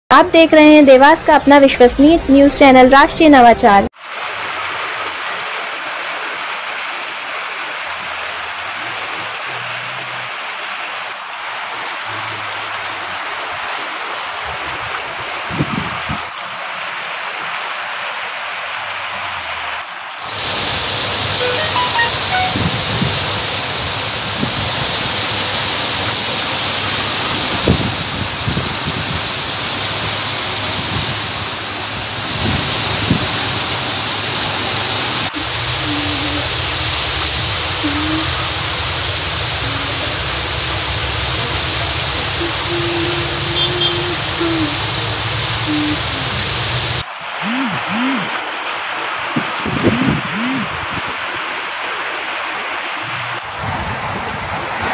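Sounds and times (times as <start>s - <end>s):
heavy rain pouring: 4.0s - 54.9s.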